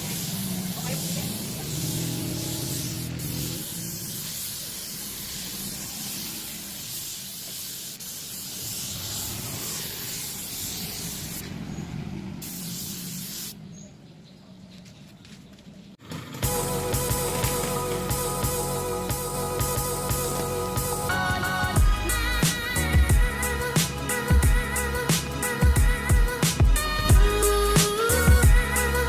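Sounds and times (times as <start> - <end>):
spraying hiss: 0.0 - 13.6, 16.4 - 29.0.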